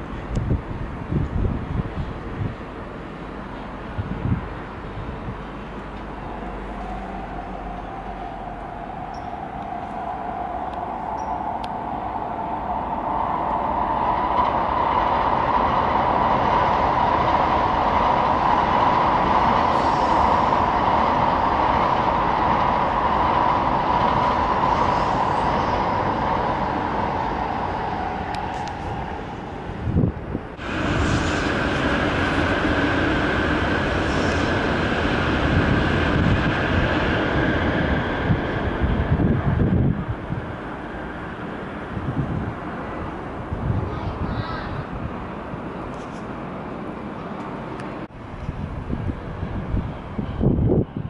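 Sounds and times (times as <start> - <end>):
train rushing past: 0.0 - 51.0.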